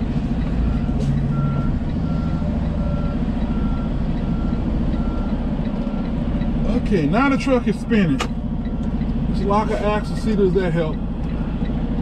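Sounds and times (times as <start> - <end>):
diesel engine running: 0.0 - 12.0
truck backup alarm beeping: 0.3 - 11.8.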